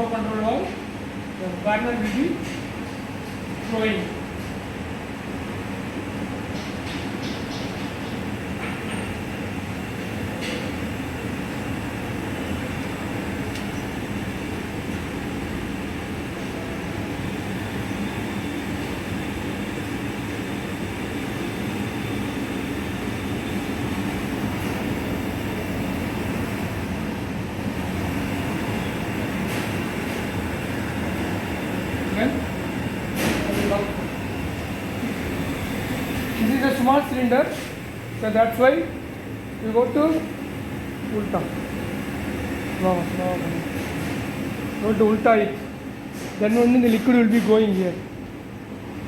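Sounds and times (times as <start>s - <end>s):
gas burner rushing: 8.4s - 47.7s.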